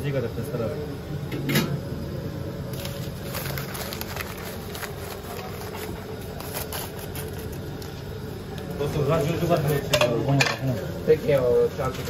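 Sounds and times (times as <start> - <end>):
kitchen low hum: 0.0 - 12.0.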